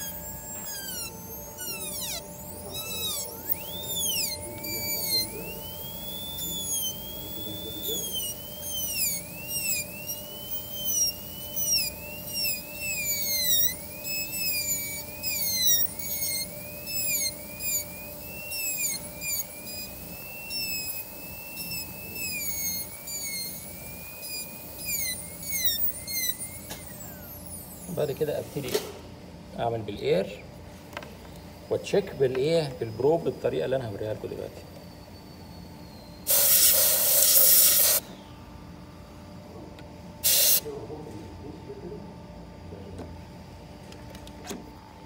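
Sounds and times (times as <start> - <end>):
dental drill whining: 0.0 - 45.0.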